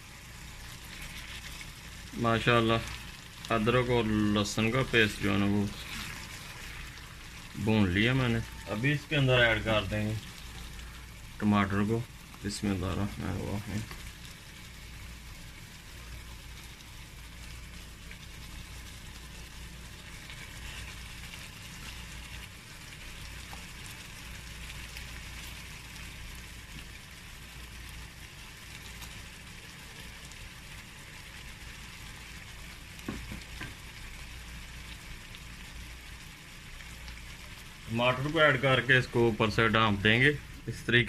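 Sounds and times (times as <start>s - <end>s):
oil sizzling around frying chicken: 0.0s - 41.0s.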